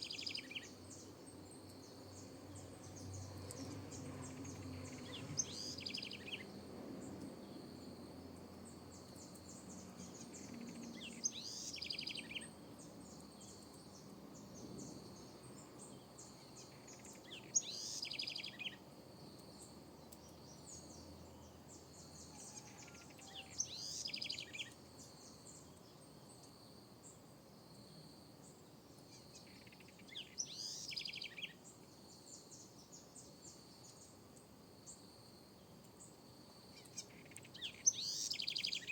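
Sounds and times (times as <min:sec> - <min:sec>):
wren singing: 0:00.0 - 0:07.7, 0:08.7 - 0:18.8, 0:19.4 - 0:25.8, 0:29.0 - 0:34.1, 0:36.7 - 0:38.9.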